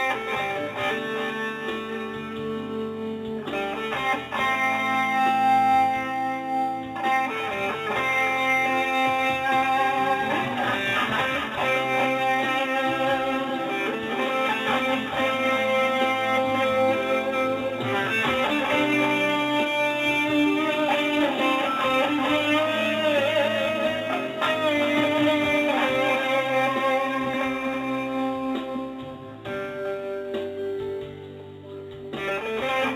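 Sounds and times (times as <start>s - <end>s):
guitar music: 0.0s - 32.9s.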